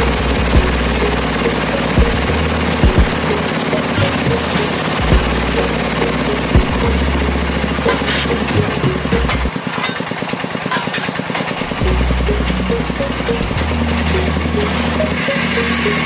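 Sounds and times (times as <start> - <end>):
low hum: 0.0 - 9.5, 11.7 - 16.0
drilling rig machinery clatter: 0.0 - 16.0.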